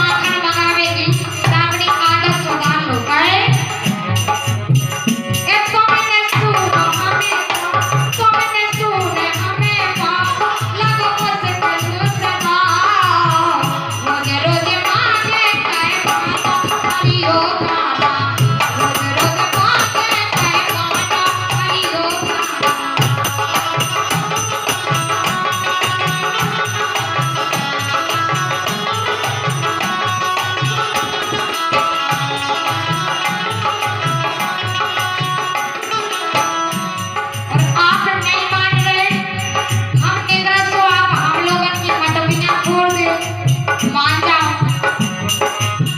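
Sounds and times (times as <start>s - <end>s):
woman singing: 0.0s - 4.0s, 5.3s - 36.4s, 37.5s - 45.1s
hand drum beat: 0.0s - 45.9s
rattling percussion: 0.0s - 45.9s.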